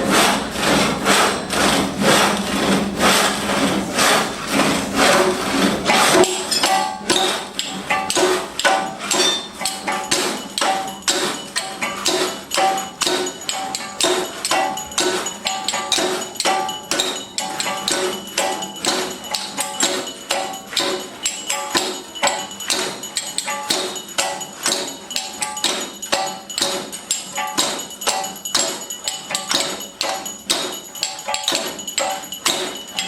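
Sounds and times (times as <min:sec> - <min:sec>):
fast ringing percussion strikes: 0:05.3 - 0:33.0.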